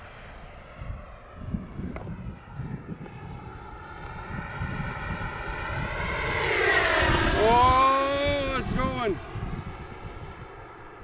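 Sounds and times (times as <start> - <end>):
wind rumble on microphone: 0.0 - 11.0
electric ducted fan whining: 1.5 - 11.0.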